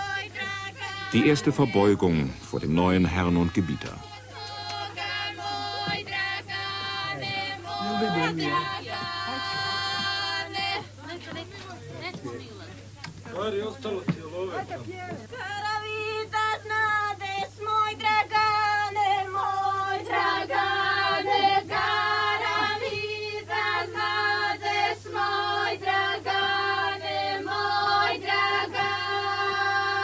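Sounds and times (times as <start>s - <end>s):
women singing together: 0.0s - 2.4s, 3.1s - 12.4s, 14.6s - 30.0s.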